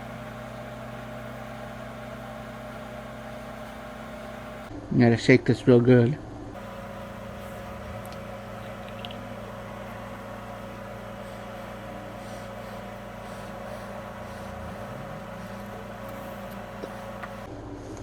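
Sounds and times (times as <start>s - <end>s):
fan humming: 0.0s - 4.7s, 6.6s - 17.5s.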